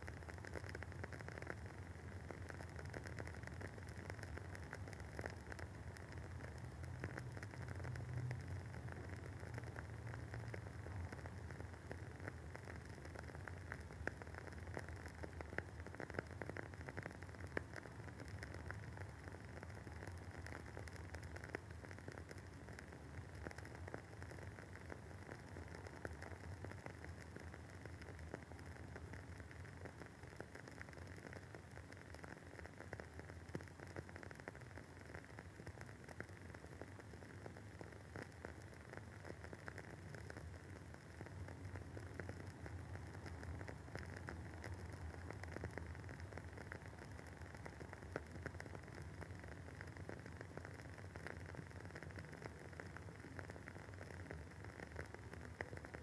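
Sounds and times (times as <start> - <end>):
candle wick crackling: 0.0 - 56.0.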